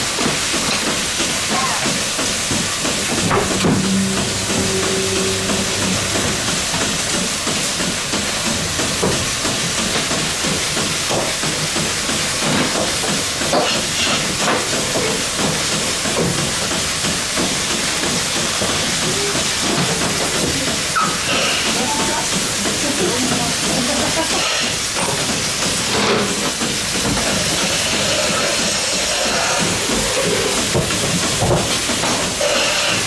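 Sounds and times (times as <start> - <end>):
milking machine vacuum hiss: 0.0 - 33.0.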